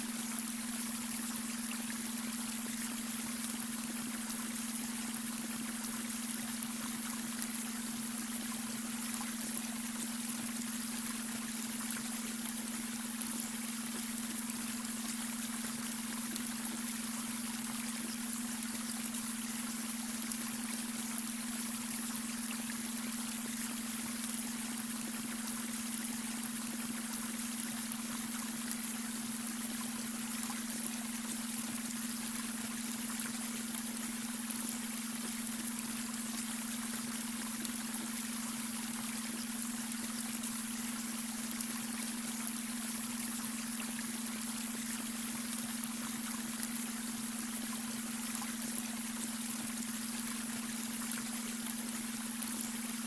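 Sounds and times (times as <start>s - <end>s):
brook water trickling and splashing: 0.0s - 53.0s.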